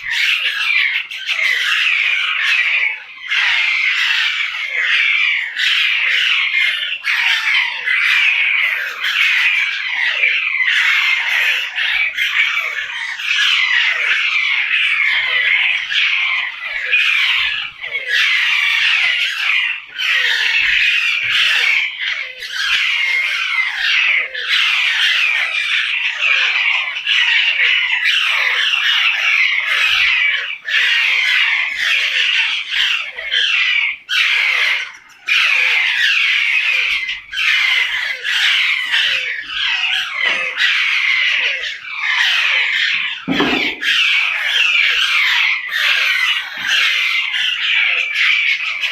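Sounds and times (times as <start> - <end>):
parrots squawking and chattering: 0.0 - 48.9.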